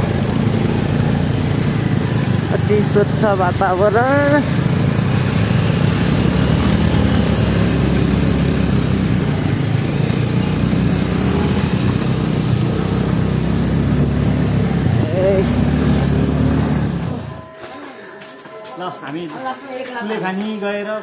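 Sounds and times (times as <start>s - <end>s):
wind and road noise: 0.0s - 17.5s
motorcycle engine running: 0.0s - 17.6s.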